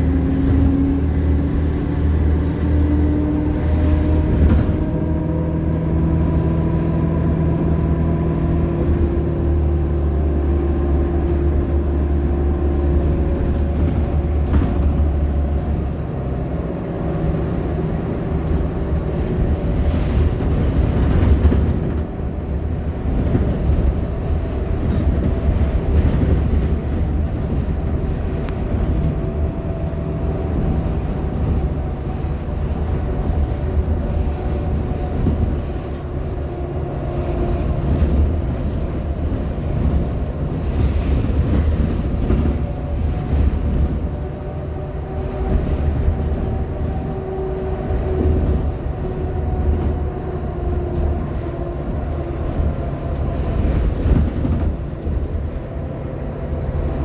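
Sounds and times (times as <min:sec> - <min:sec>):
bus ride drone: 0:00.0 - 0:57.0.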